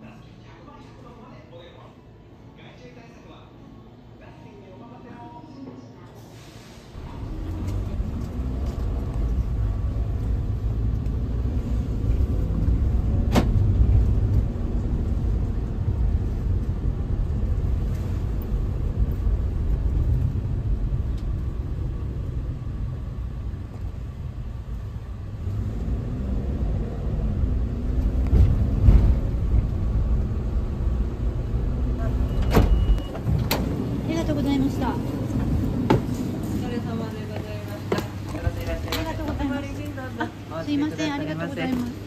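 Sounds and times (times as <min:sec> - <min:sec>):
engine and road rumble: 0:06.2 - 0:42.0.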